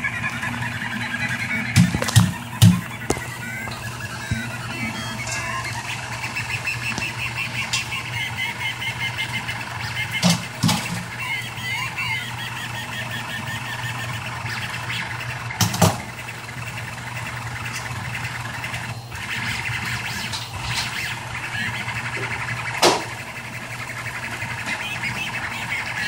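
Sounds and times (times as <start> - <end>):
steady low hum: 0.0 - 26.0
stepper motors whining: 0.0 - 26.0.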